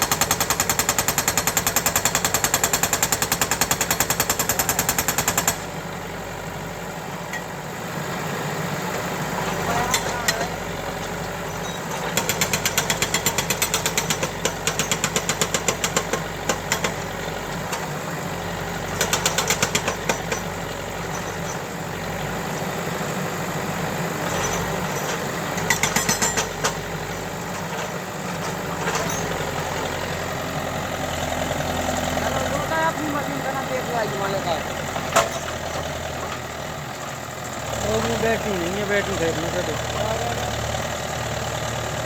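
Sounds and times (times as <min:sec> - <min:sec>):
tractor loader engine running: 0:00.0 - 0:42.0.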